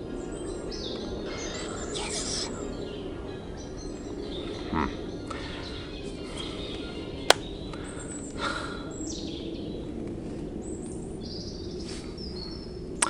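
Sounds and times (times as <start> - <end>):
outdoor background noise: 0.0 - 13.0
small birds chirping: 0.2 - 12.9.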